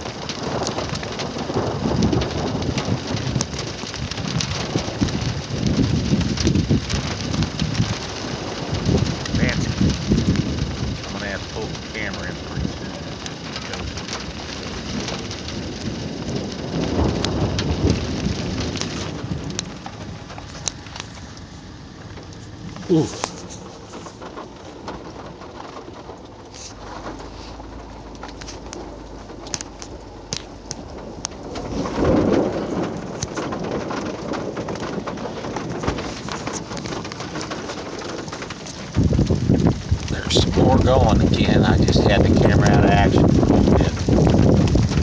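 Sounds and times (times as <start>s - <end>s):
raindrops ticking close by: 0.0s - 45.0s
steady rain: 0.0s - 45.0s
thunder rumbling: 0.0s - 45.0s.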